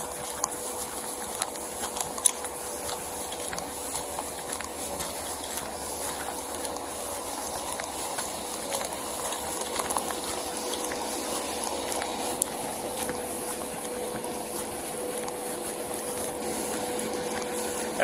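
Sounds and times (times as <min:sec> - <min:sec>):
faint steady hum: 0:00.0 - 0:18.0
footsteps on gravel: 0:00.0 - 0:18.0.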